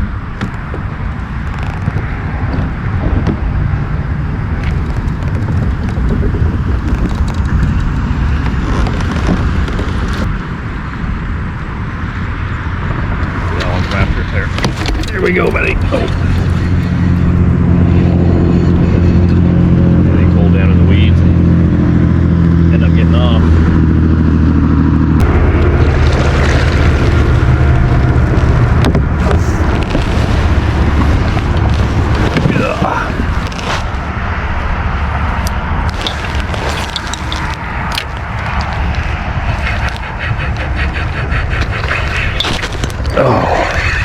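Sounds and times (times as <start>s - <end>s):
low motor-like drone: 0.0s - 44.0s
wind buffeting microphone: 0.0s - 44.0s.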